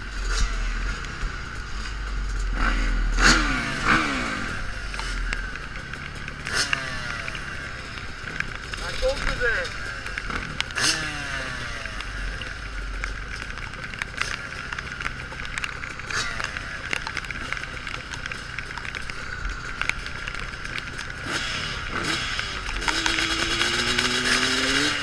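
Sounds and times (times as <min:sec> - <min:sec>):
motocross engine revving: 0:00.0 - 0:25.0.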